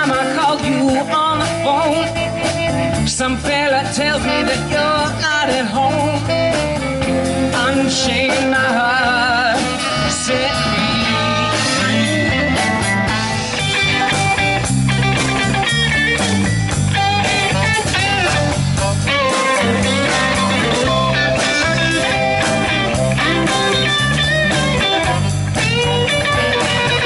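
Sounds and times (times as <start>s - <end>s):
bass line: 0.0s - 27.0s
drums: 0.0s - 27.0s
electric guitar lead: 0.0s - 27.0s.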